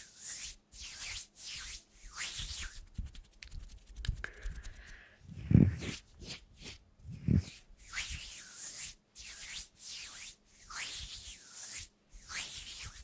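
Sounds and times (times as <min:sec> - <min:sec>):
scratchy rubbing strokes: 0:00.0 - 0:13.0.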